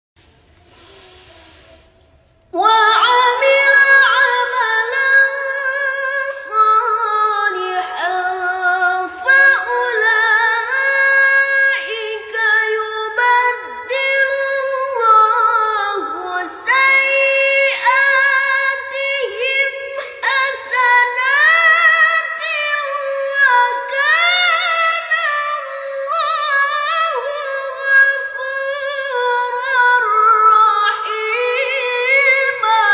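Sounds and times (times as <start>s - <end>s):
woman chanting melodically: 0.6s - 32.9s.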